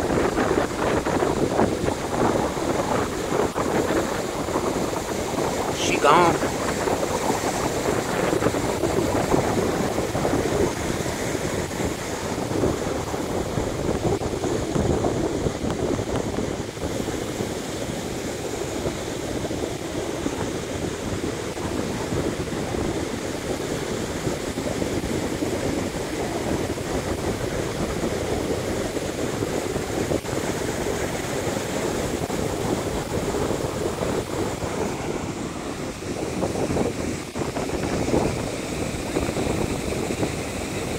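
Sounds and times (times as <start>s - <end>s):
ocean surf breaking on beach: 0.0s - 40.9s
wind noise on microphone: 0.0s - 40.9s.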